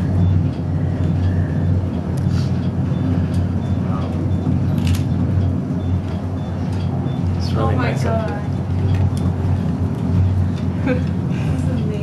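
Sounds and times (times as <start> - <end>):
elevator hum and rumble: 0.0 - 12.0.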